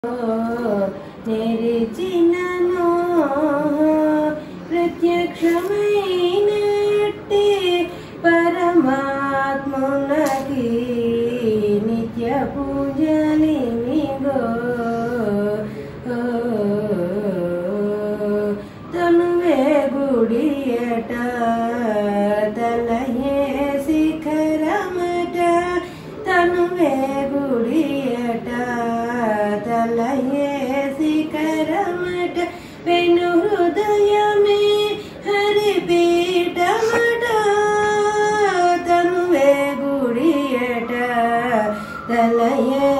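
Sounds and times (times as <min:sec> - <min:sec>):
woman singing: 0:00.0 - 0:42.9.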